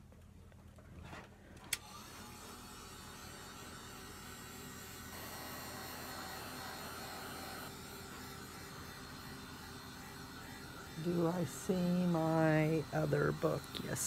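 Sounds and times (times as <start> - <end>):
electric appliance humming: 1.6 - 14.0.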